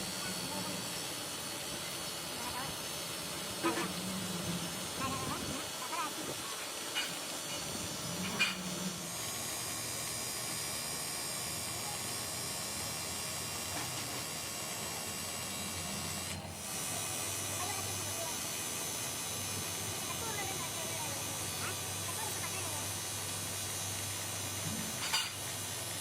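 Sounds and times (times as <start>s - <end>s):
steady hissing noise: 0.0s - 26.0s.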